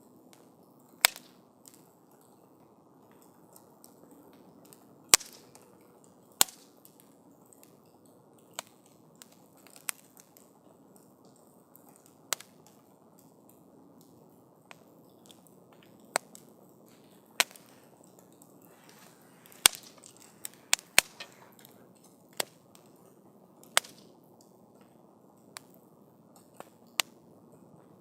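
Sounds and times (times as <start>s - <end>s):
campfire crackling and popping: 0.1s - 28.0s.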